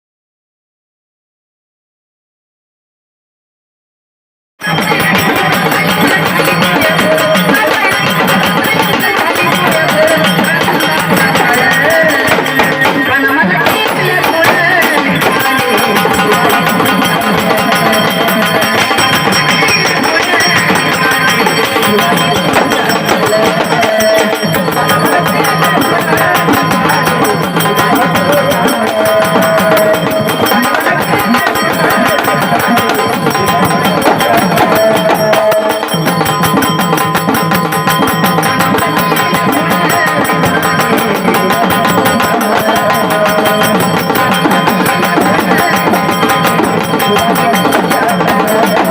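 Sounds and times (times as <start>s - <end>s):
dense percussion beat: 4.6s - 48.9s.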